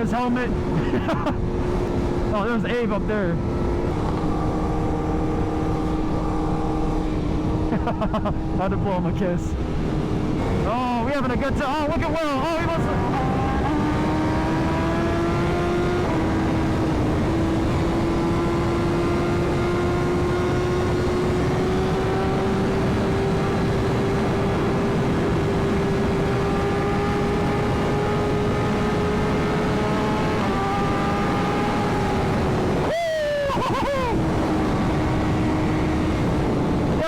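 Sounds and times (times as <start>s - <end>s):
motorcycle engine at speed: 0.0s - 37.0s
wind rush over microphone: 3.2s - 37.0s.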